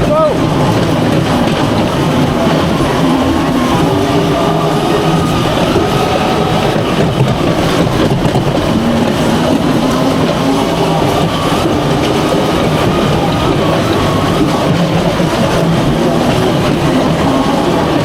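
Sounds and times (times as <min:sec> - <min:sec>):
ride car mechanical hum: 0:00.0 - 0:18.0.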